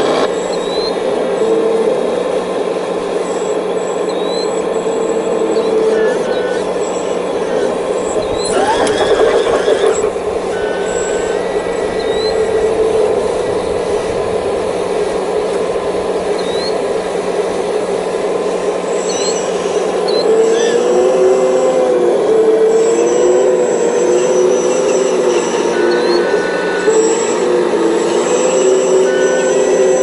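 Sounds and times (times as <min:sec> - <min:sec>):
hydraulic pump whine: 0:00.0 - 0:30.0.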